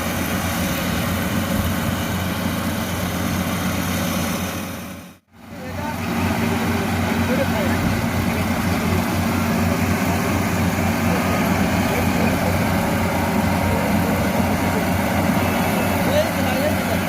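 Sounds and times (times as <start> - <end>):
combine harvester engine drone: 0.0 - 17.0
machinery noise: 0.0 - 17.0.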